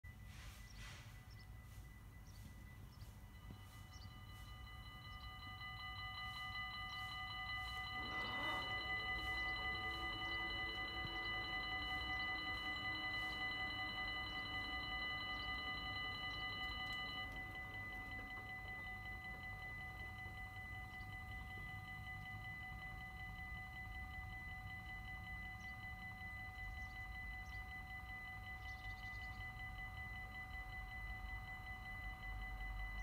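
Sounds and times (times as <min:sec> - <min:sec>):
level crossing warning bells ringing: 0:00.0 - 0:33.0
low hum: 0:00.0 - 0:33.0.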